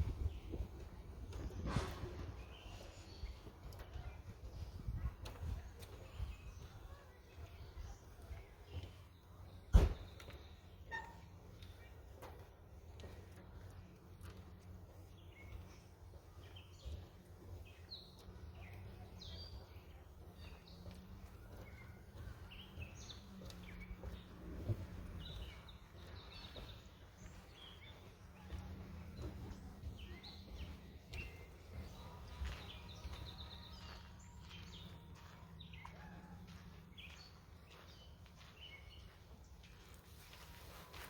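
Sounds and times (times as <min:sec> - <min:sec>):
songbirds chirping: 0:00.0 - 0:41.0.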